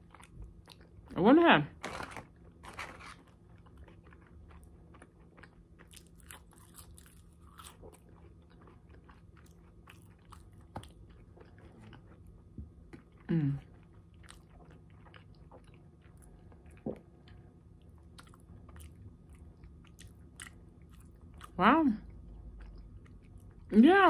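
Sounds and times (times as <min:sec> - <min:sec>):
close-miked chewing: 0:00.0 - 0:01.1, 0:03.2 - 0:23.8.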